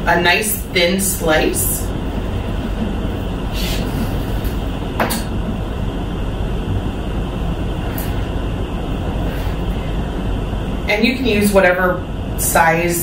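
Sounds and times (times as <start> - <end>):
rushing background noise: 0.0 - 13.0.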